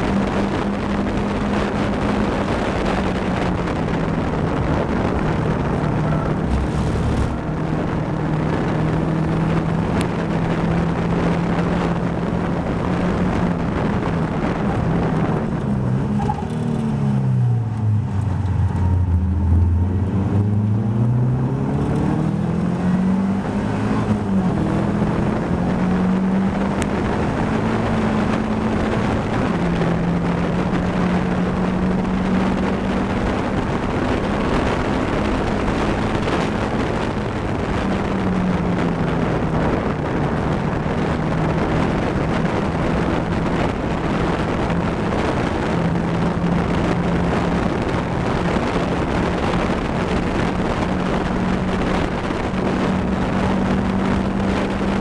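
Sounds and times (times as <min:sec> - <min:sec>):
car engine at high revs: 0:00.0 - 0:55.0
wind rush: 0:00.0 - 0:55.0.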